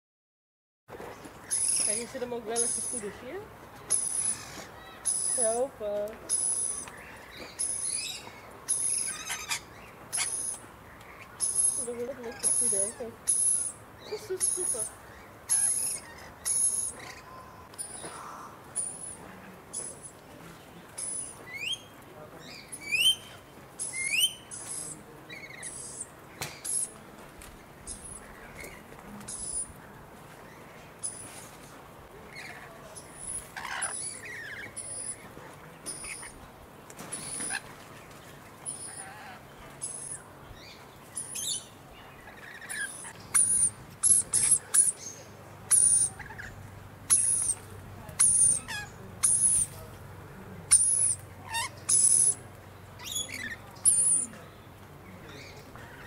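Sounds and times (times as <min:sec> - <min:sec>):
small birds chirping: 0:00.9 - 0:56.0.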